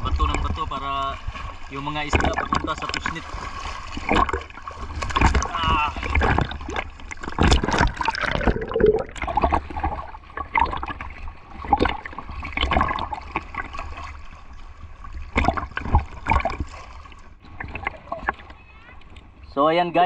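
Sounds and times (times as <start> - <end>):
water sloshing and gurgling: 0.0 - 20.0
water splashes: 0.0 - 20.0.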